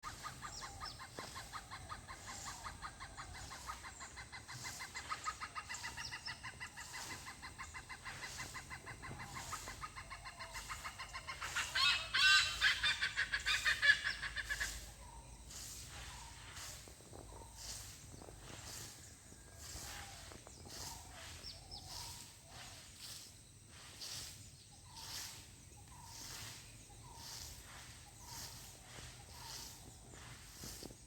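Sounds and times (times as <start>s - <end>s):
birds calling: 0.0s - 31.0s.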